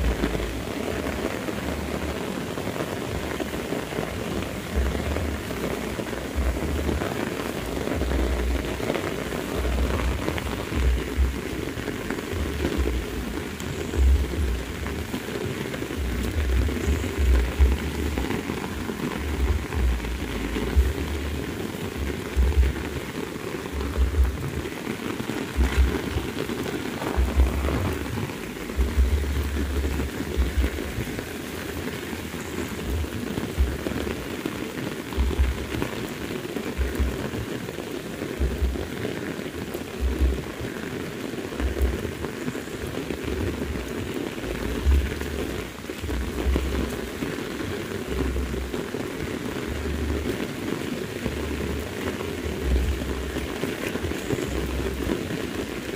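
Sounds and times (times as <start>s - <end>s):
low rumbles: 0.0s - 34.4s, 35.1s - 36.0s, 38.4s - 39.1s, 40.0s - 40.7s, 41.6s - 47.2s, 47.9s - 55.2s
heavy rain falling: 0.0s - 55.9s.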